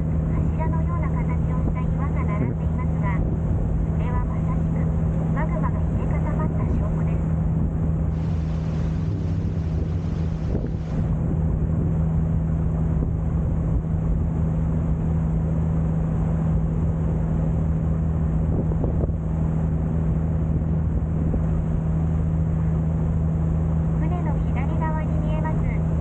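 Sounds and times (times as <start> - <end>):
boat engine humming: 0.0 - 26.0
wind and water noise: 0.0 - 26.0.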